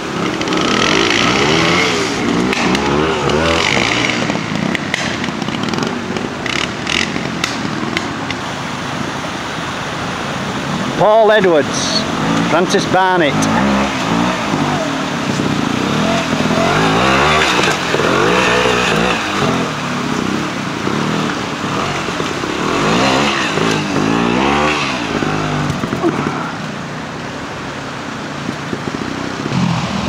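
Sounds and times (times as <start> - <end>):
motorcycle engine revving: 0.0 - 30.0
stream water rushing: 0.0 - 30.0.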